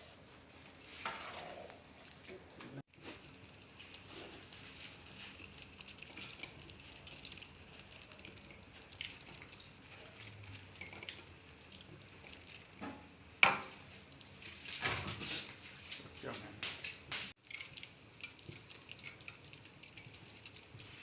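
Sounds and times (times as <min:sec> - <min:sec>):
chicken sizzling in a wok: 0:01.1 - 0:16.2, 0:17.0 - 0:21.0.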